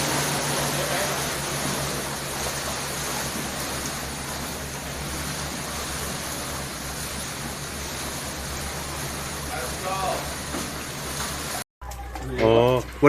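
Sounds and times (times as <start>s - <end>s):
river water rushing: 0.0s - 11.6s
boat wake surging against house: 0.0s - 13.0s.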